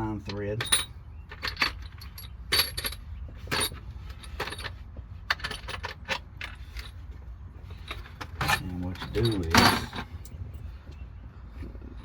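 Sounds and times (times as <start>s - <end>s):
bolts and washers clinking: 0.0s - 10.4s.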